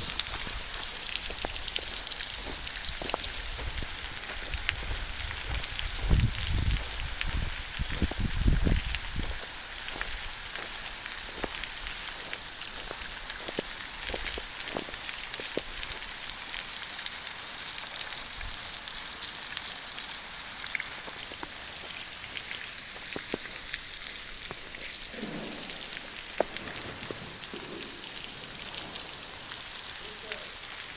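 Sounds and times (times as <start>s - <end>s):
waterfall pouring and splashing: 0.0s - 30.9s.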